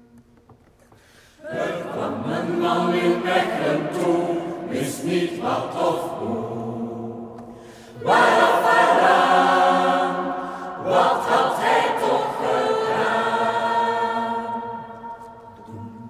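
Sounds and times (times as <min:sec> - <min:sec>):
choir singing a cappella: 0:01.4 - 0:16.0.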